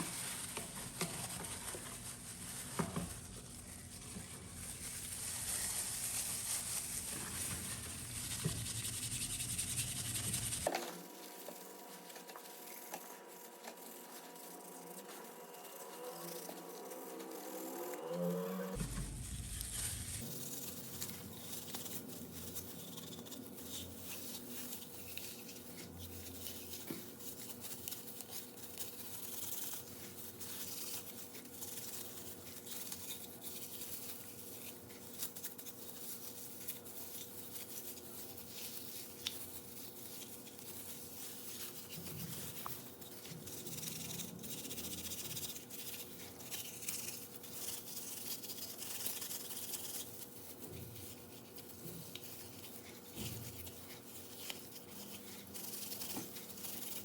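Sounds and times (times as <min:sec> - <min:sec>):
brushing and scraping object: 0:00.0 - 0:57.0.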